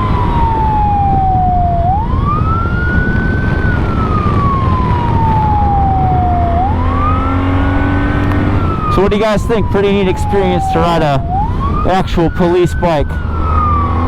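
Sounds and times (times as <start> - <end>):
police siren wailing: 0.0 - 14.0.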